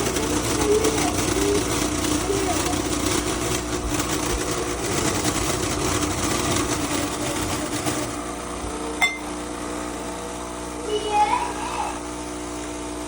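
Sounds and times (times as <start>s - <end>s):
espresso machine hissing: 0.0s - 13.0s
espresso machine hum: 0.0s - 13.0s.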